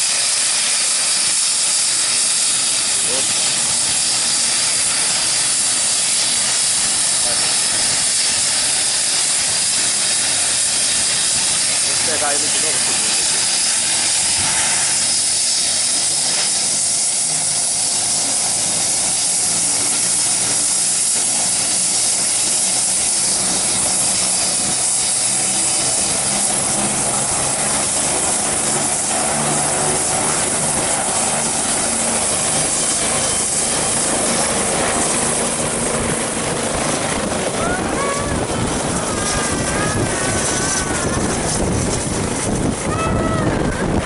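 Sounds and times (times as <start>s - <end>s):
helicopter turbine whine: 0.0s - 44.0s.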